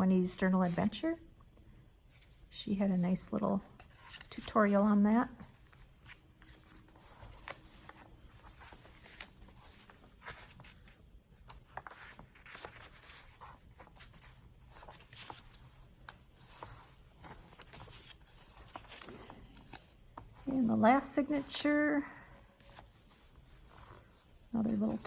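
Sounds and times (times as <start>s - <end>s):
paper pages rustling: 3.6s - 21.8s, 22.6s - 25.0s.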